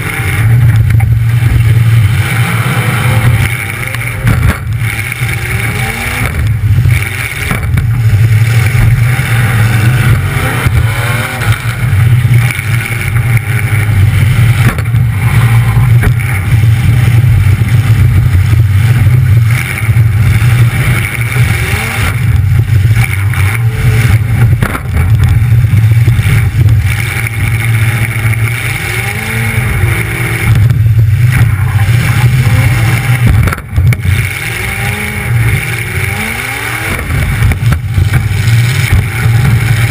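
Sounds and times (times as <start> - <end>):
car engine revving loud: 0.0 - 39.9.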